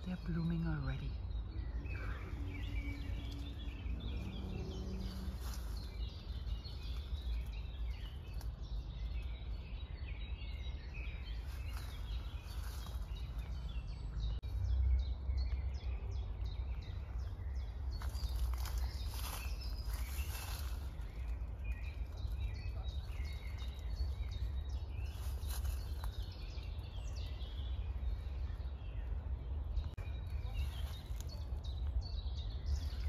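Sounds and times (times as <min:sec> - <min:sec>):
low background rumble: 0:00.0 - 0:33.0
songbirds chirping and singing: 0:00.0 - 0:33.0.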